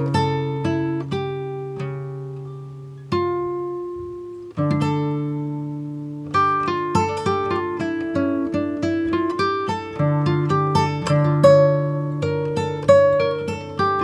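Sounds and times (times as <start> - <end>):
acoustic guitar chords and plucking: 0.0 - 14.0.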